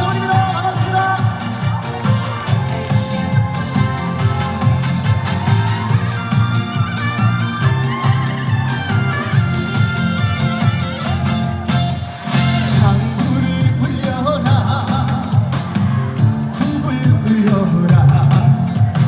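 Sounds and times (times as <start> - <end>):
live band playing over loudspeakers: 0.0 - 19.0
wavering melody line: 0.2 - 17.0.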